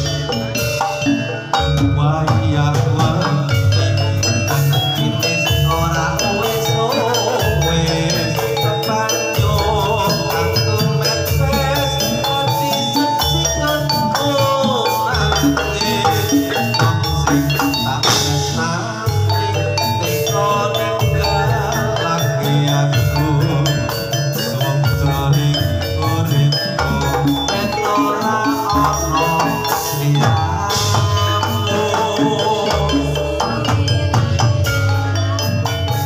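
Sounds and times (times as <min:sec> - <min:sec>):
drumming: 0:00.0 - 0:36.0
person singing: 0:00.0 - 0:36.0.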